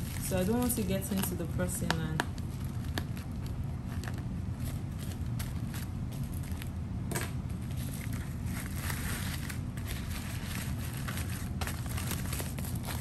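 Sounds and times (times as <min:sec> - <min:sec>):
plastic rustling: 0:00.0 - 0:06.8, 0:07.5 - 0:13.0
steady low hum: 0:00.0 - 0:13.0.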